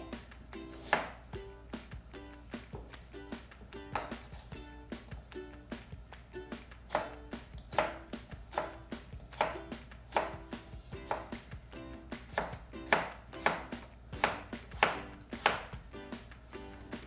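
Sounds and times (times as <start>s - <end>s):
knife cutting potato: 0.0s - 1.2s, 2.5s - 5.9s, 6.5s - 16.3s.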